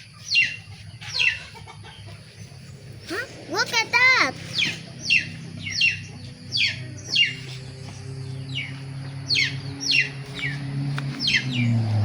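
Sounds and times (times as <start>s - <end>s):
chick peeping: 0.0s - 11.8s.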